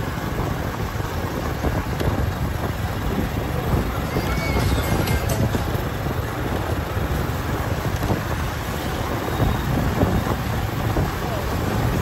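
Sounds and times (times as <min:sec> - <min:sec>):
street traffic: 0:00.0 - 0:12.0
wind rumble on microphone: 0:00.0 - 0:12.0.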